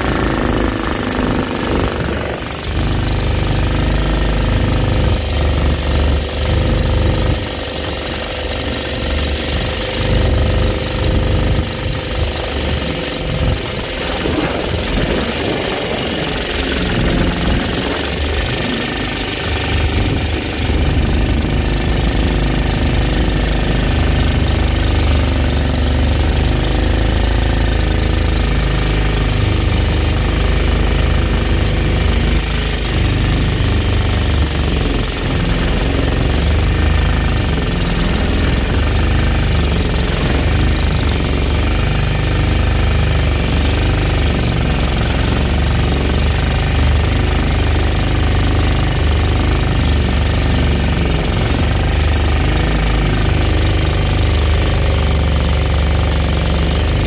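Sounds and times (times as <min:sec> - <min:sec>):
small boat motor running: 0:00.0 - 0:57.0.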